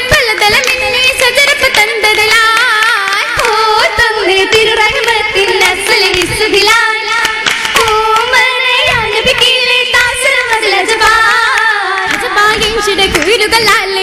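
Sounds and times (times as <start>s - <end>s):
girls singing: 0.0s - 14.0s
rhythmic hand claps: 0.0s - 14.0s.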